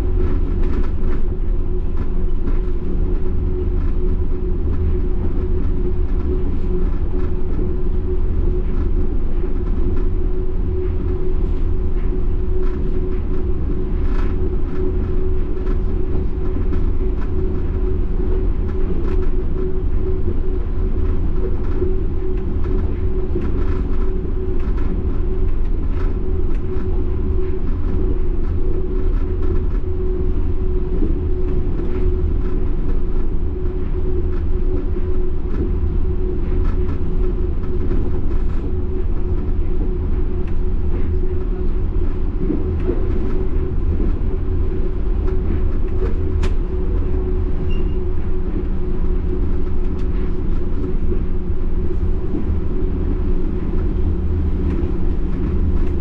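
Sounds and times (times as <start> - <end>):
constant droning tone: 0.0 - 56.0
train low rumble: 0.0 - 56.0.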